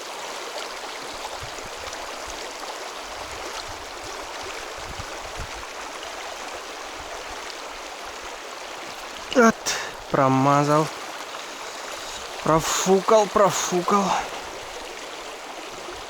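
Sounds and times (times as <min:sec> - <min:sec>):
river water rushing: 0:01.9 - 0:16.0.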